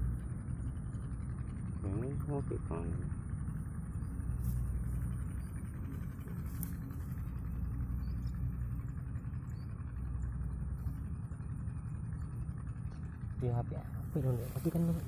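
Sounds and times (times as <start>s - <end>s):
faint engine hum: 0.0s - 15.0s
road traffic rumble: 0.0s - 15.0s.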